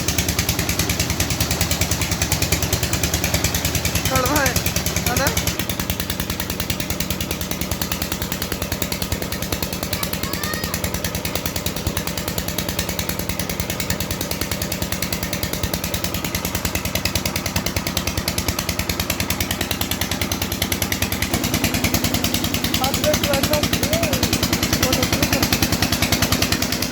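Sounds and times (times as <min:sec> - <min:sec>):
engine running with rapid thumping: 0:00.0 - 0:26.9.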